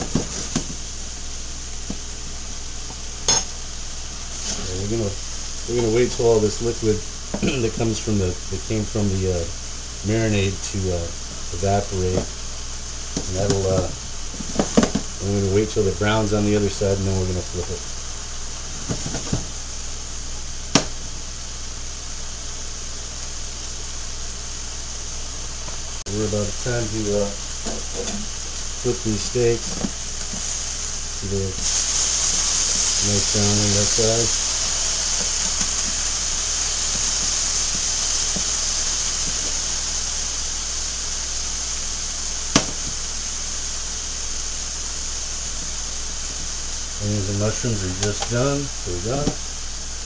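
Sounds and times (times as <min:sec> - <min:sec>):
steaks sizzling in frying pans: 0:00.0 - 0:50.0.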